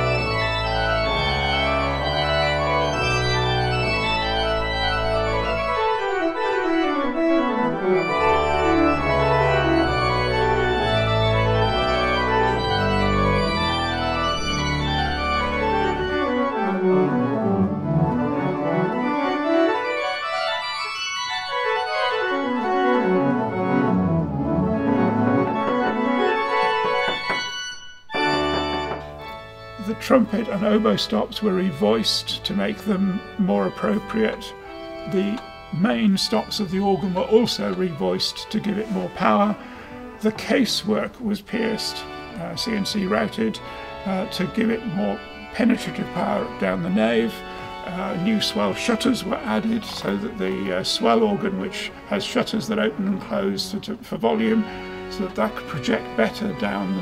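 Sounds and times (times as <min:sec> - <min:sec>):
pipe organ playing: 0:00.0 - 0:57.0.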